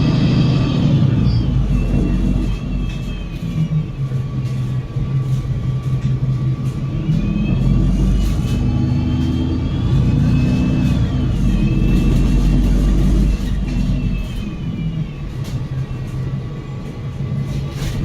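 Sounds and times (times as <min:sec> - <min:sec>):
bus diesel engine hum: 0:00.0 - 0:18.0
high drivetrain whine: 0:00.0 - 0:18.0.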